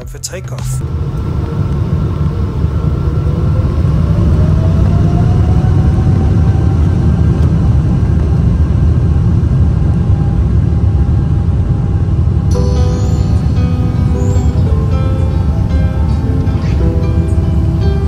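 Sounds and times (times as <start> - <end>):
engine whine rising in pitch: 0.0 - 18.0
jet engines rumbling: 0.0 - 18.0.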